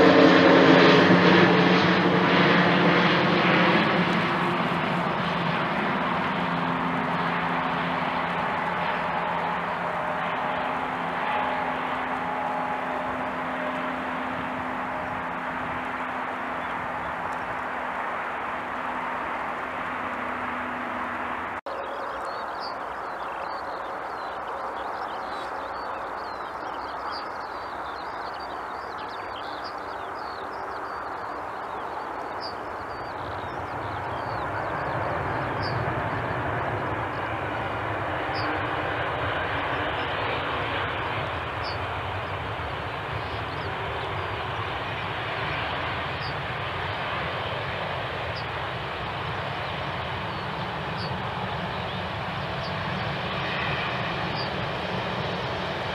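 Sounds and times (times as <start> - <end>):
jet engines rushing: 0.0 - 55.9.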